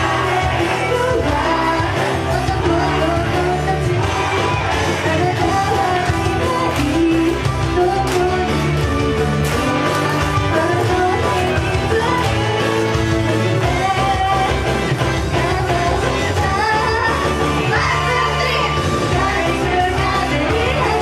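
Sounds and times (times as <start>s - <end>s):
pop-rock song with singing: 0.0s - 21.0s.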